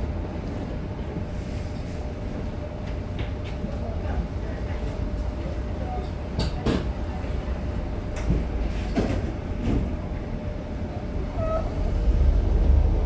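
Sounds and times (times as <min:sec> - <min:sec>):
tram interior rumble: 0:00.0 - 0:13.0.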